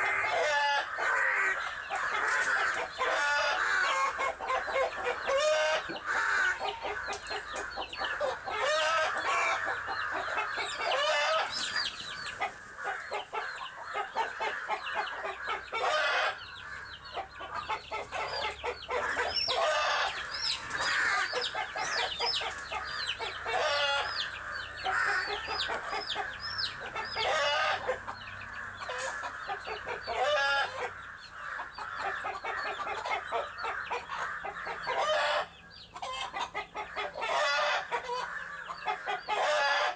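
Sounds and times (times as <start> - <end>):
chickens clucking and squawking: 0.0 - 39.9.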